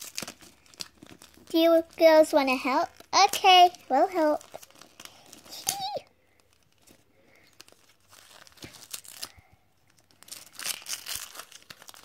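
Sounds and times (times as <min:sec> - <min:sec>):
wrapping paper tearing and crinkling: 0:00.0 - 0:12.0.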